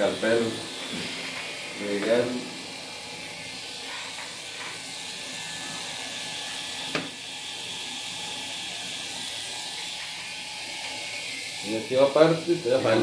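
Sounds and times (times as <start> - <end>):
tattoo machine hissing: 0.0 - 13.0.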